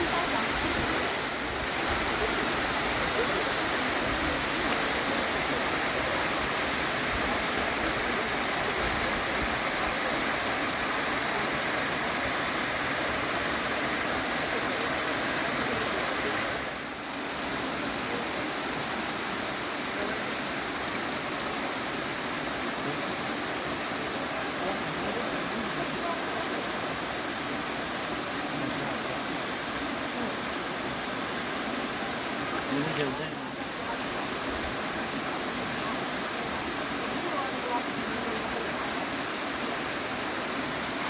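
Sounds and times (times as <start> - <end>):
rushing stream water: 0.0 - 41.0.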